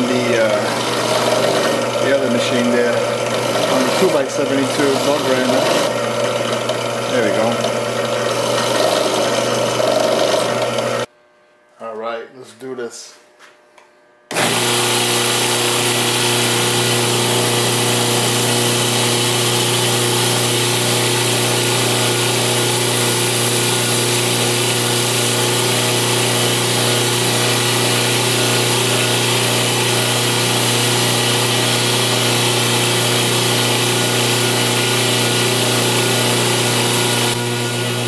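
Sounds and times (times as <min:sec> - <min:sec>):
belt grinder running: 0:00.0 - 0:11.1, 0:14.3 - 0:38.0.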